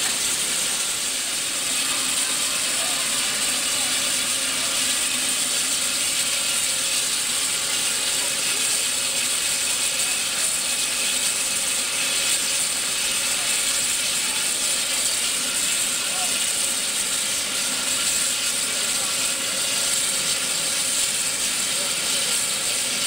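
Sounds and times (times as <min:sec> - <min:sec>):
high-pitched steam hiss: 0:00.0 - 0:23.0.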